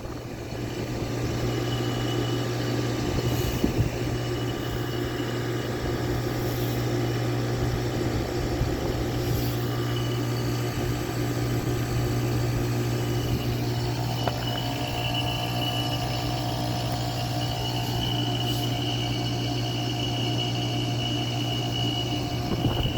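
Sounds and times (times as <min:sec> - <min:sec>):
heat pump unit humming: 0:00.0 - 0:22.9.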